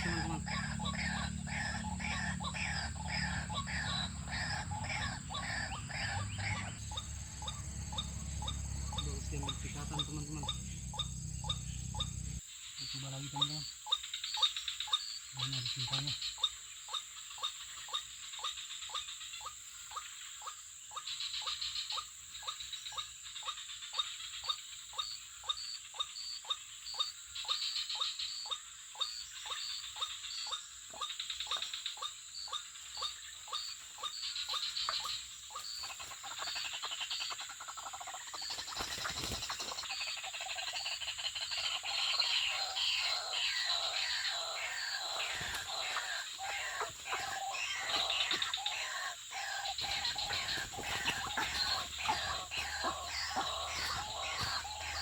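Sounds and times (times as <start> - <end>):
high insect hum: 0.0 - 55.0.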